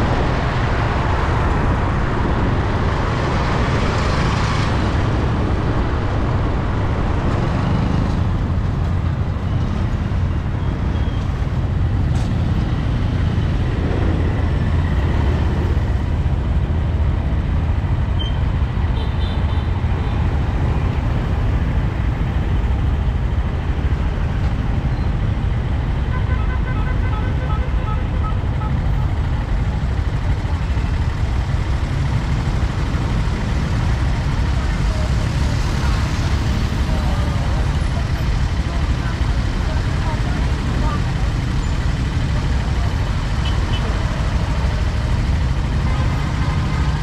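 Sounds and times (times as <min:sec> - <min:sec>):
street traffic rumble: 0:00.0 - 0:47.0.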